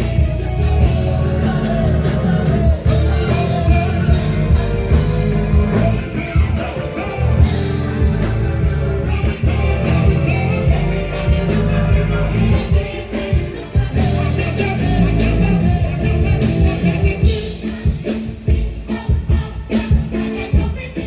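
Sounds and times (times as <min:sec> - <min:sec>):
pulsing bass notes: 0:00.0 - 0:17.4
loud music with singing: 0:00.0 - 0:21.0.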